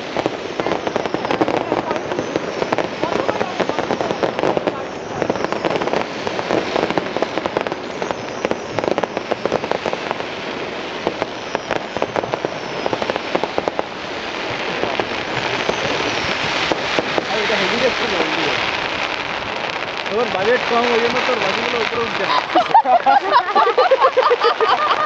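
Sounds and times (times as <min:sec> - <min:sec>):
fireworks crackling: 0:00.0 - 0:25.0
fireworks hissing: 0:00.0 - 0:25.0.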